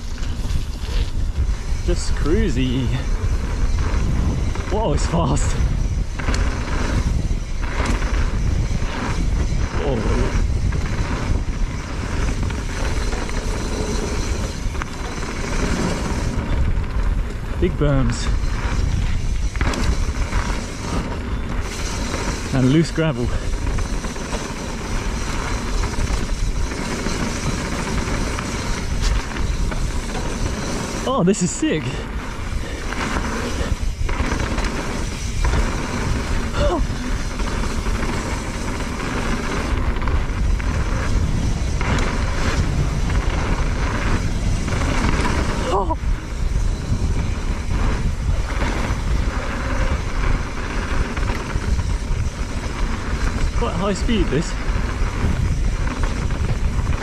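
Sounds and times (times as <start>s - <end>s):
bike tyres rolling on gravel: 0.0s - 57.0s
wind rumble on microphone: 0.0s - 57.0s.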